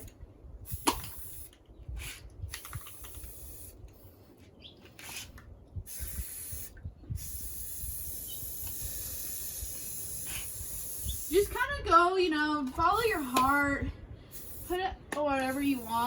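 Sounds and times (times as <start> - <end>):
spray paint can spraying: 0.0 - 4.0, 5.0 - 11.7, 12.8 - 16.0.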